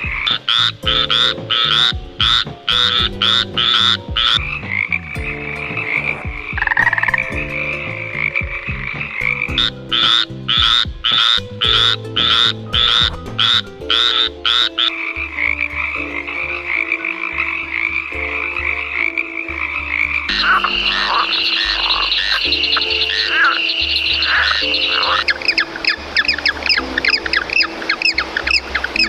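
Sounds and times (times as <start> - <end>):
frogs croaking: 0.0 - 29.0
high trilling chorus: 0.0 - 29.0.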